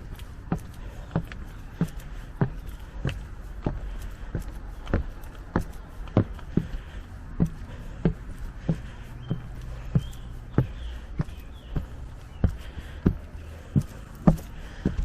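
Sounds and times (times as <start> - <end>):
footsteps walking: 0.0 - 15.0.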